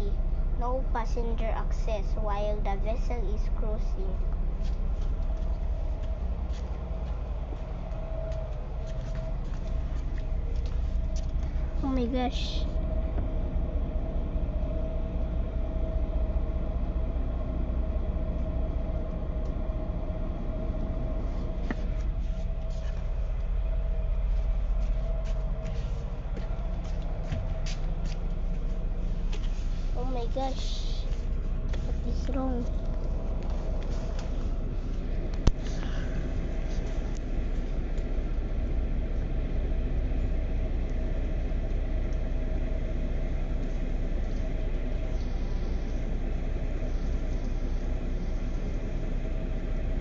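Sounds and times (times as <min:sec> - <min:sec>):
boat engines rumbling: 0:00.0 - 0:50.0
faint steady hum: 0:00.0 - 0:50.0.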